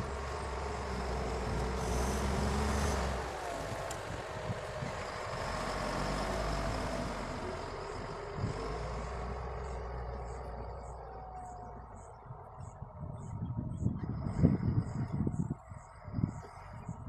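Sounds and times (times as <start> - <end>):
diesel construction vehicle running: 0.0 - 17.0.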